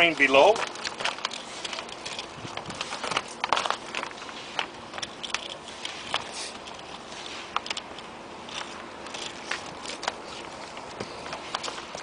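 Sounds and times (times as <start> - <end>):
plastic sheet crinkling: 0.0 - 12.0.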